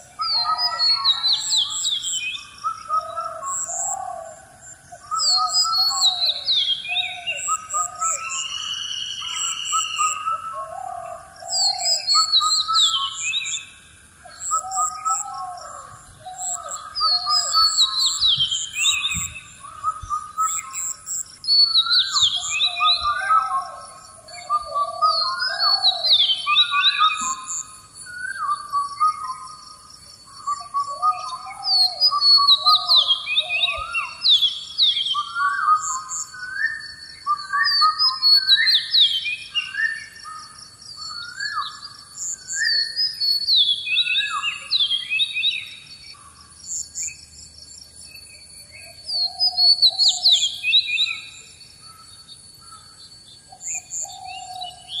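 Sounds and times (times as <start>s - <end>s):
birds whistling: 0.0s - 55.0s.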